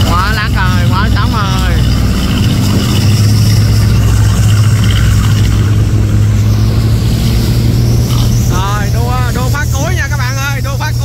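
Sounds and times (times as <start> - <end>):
boat engine drone: 0.0 - 11.0
rush of wind and water: 0.0 - 11.0.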